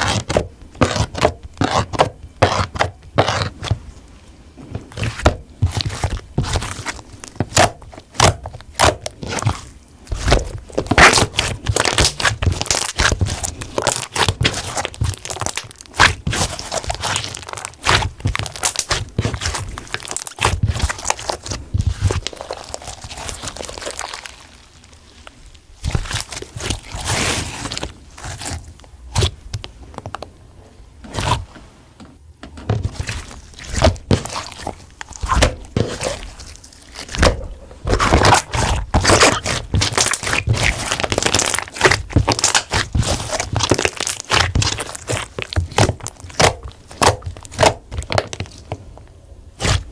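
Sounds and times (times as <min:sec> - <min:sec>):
slime squished by hand: 0:00.0 - 0:04.1, 0:04.8 - 0:30.2, 0:32.8 - 0:49.0, 0:49.6 - 0:49.9.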